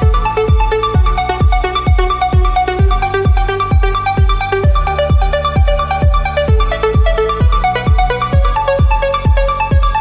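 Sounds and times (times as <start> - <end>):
four-on-the-floor kick drum: 0.0 - 10.0
synth melody: 0.0 - 10.0.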